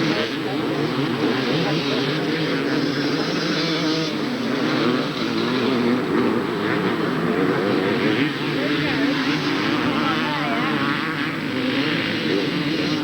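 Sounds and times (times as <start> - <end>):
motocross bikes racing: 0.0 - 13.0.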